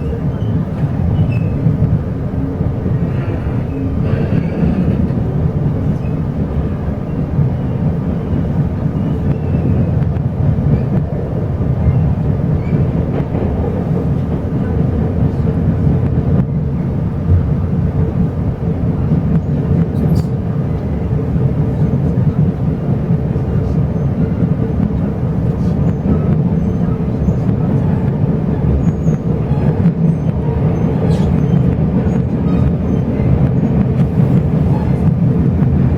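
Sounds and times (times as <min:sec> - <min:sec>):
train coach rumbling on track: 0:00.0 - 0:35.9.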